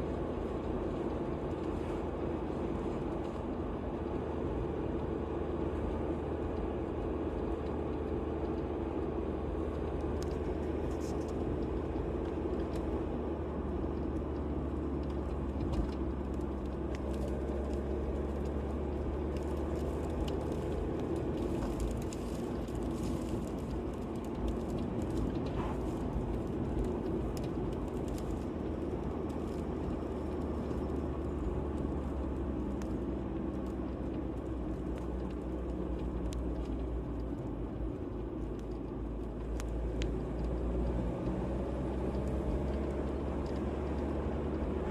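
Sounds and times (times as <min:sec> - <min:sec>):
light crackle: 0:00.0 - 0:44.9
vehicle engine and road noise: 0:00.0 - 0:44.9.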